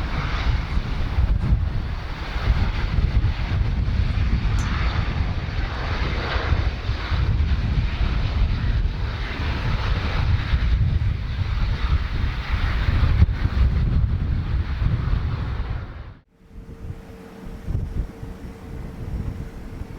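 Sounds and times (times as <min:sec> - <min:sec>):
aircraft engine rush: 0:00.0 - 0:19.9
wind buffeting microphone: 0:00.0 - 0:19.9.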